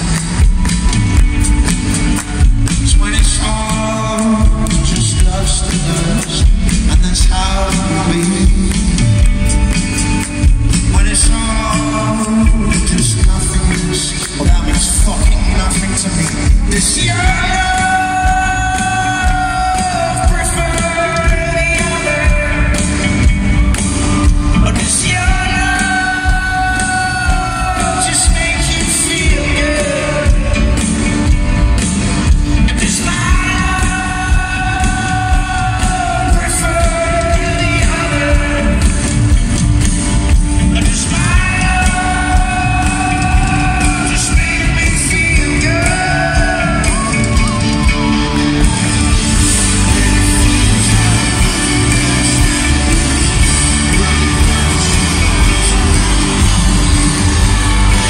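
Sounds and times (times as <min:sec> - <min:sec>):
person singing: 0:00.0 - 0:39.8, 0:40.6 - 0:58.0
steady drum beat: 0:00.0 - 0:58.0.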